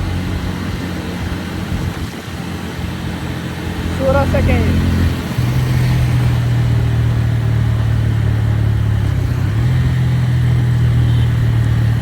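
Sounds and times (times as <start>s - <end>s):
motorcycle engine cruising: 0.0s - 12.0s
wind noise: 0.0s - 12.0s.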